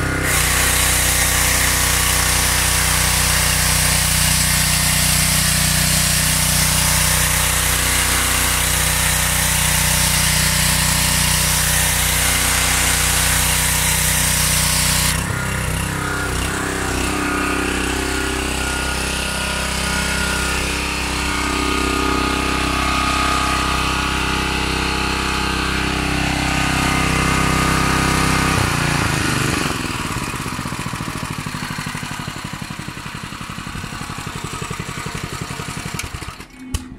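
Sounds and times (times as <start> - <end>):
high-pressure water jet hissing: 0.0 - 30.4
pressure washer engine running: 0.0 - 36.8.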